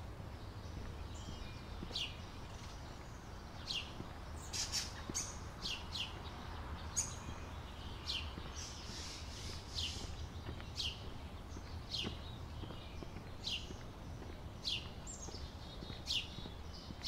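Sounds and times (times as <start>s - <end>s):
songbirds calling: 0.0s - 17.0s.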